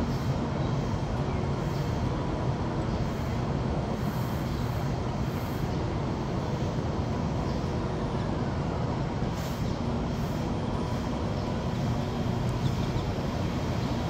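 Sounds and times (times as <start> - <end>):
train low rumble and hiss: 0.0 - 14.0.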